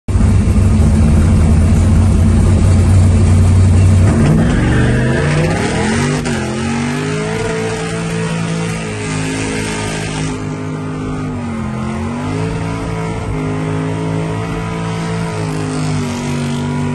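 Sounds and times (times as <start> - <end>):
car engine revving: 0.1 - 16.9.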